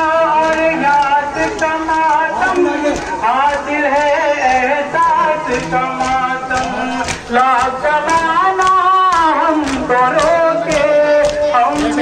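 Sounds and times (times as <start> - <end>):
men chanting in unison: 0.0 - 12.0
hands slapping on chests: 0.3 - 12.0.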